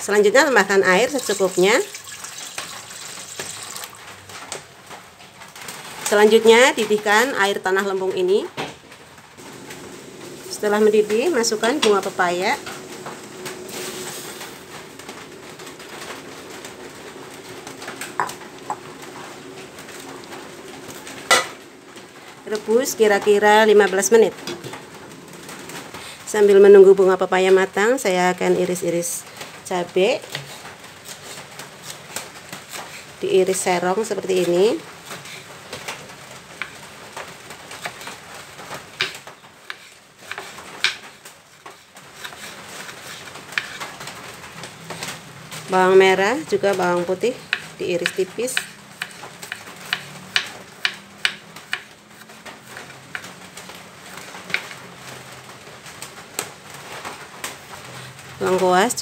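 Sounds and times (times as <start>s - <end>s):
water boiling in a pot: 0.0s - 7.4s, 8.9s - 59.0s.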